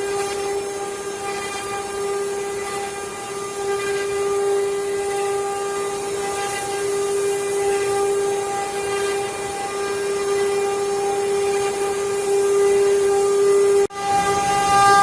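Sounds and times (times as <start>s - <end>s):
cnc router spindle whine: 0.0s - 15.0s
cutting hiss: 0.0s - 15.0s.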